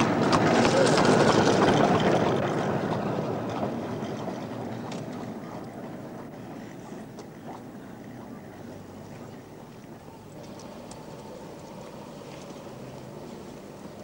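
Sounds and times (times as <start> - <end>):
wheels rumbling on road: 0.0 - 14.0.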